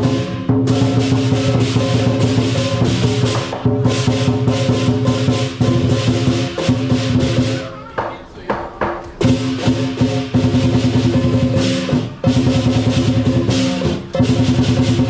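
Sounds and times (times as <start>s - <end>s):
cymbals clashing: 0.0s - 7.9s, 8.7s - 15.0s
drum beaten rapidly: 0.0s - 15.0s.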